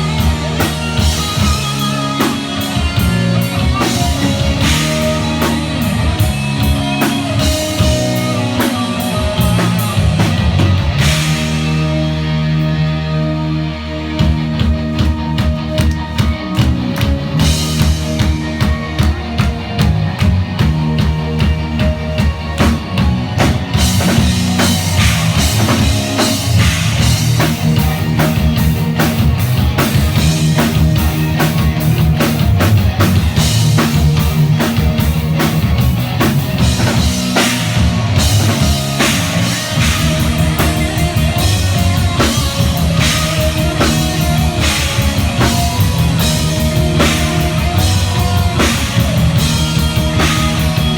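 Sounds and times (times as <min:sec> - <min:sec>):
fast driving drumming: 0:00.0 - 0:12.8, 0:14.2 - 0:50.9
heavy rock band playing: 0:00.0 - 0:50.9.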